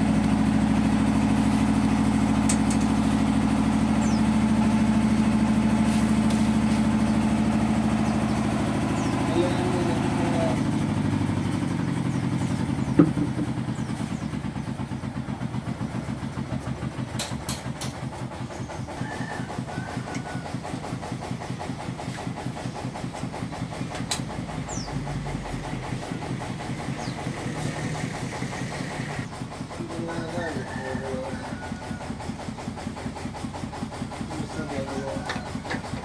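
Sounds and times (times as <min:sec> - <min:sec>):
grinding machine motor running: 0:00.0 - 0:36.0.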